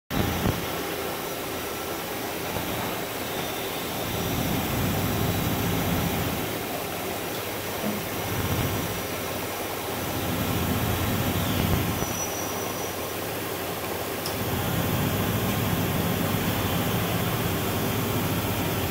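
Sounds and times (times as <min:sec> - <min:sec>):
machinery humming: 0:00.1 - 0:18.9
faint steady machine tones: 0:00.4 - 0:18.9.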